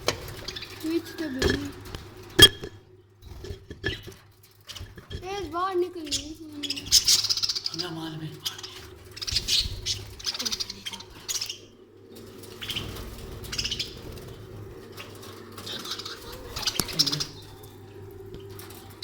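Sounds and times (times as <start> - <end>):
budgerigars chirping: 0.0 - 2.8, 3.4 - 19.0.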